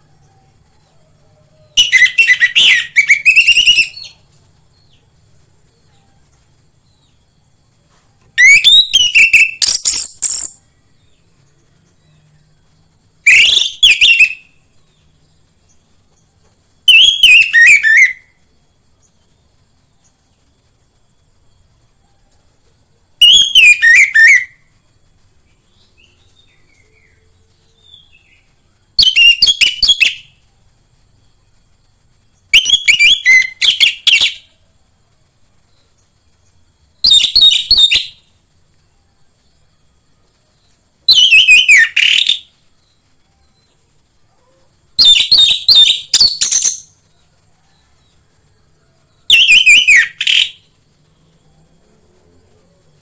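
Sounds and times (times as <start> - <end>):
faint high hiss: 0.0 - 53.0.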